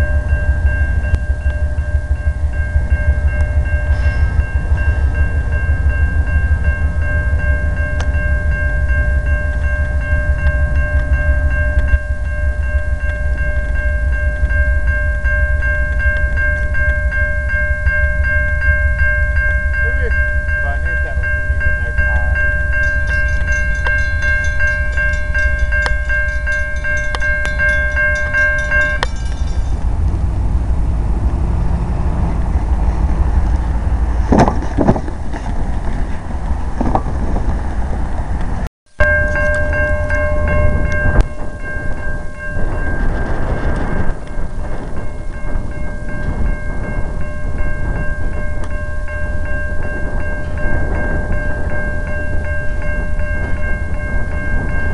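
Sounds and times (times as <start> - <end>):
high-pitched ringing tone: 0.0 - 29.9, 39.0 - 54.9
freight train rumbling past: 0.0 - 54.9.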